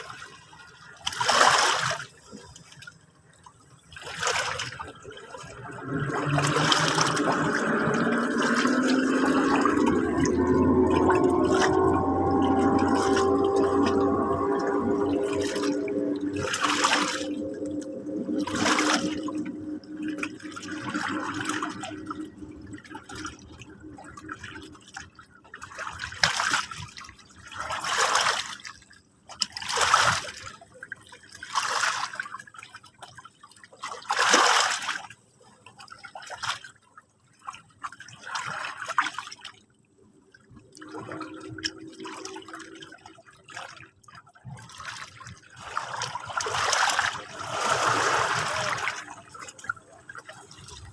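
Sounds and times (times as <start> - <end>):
small sea waves washing in: 0.0 - 32.7, 37.4 - 50.9.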